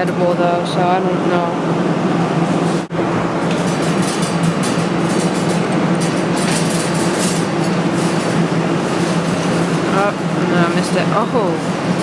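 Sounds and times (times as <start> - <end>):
claw machine mechanical hum: 0.0 - 12.0.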